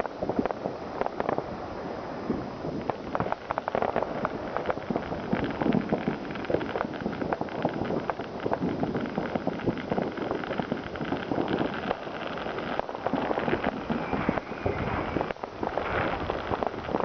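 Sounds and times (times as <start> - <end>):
fireworks popping and banging: 0.0 - 17.0.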